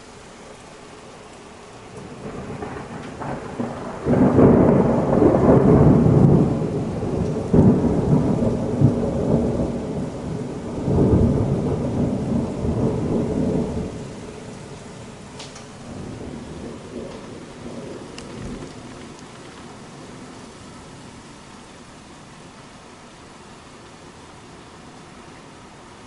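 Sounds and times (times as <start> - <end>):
thunder rumbling: 1.8 - 24.4.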